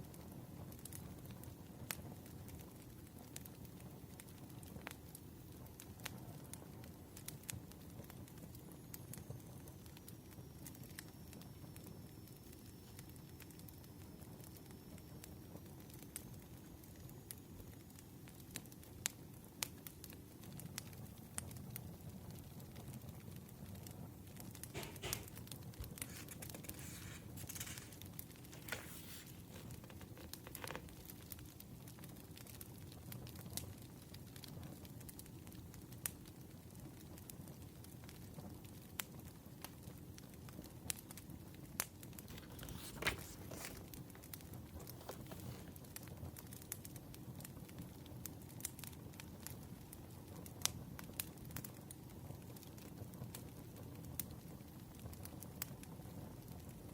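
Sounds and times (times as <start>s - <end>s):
firewood crackling: 0.0s - 56.8s.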